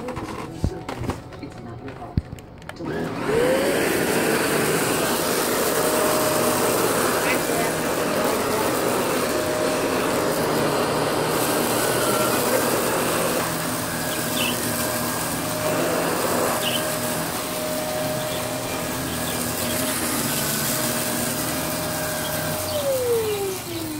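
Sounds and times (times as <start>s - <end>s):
vacuum cleaner motor whining: 0.0s - 23.9s.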